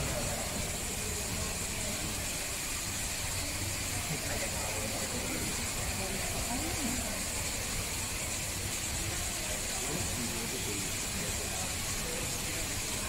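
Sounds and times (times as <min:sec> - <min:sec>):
distant voices murmuring: 0:00.0 - 0:13.0
steady background hiss: 0:00.0 - 0:13.0.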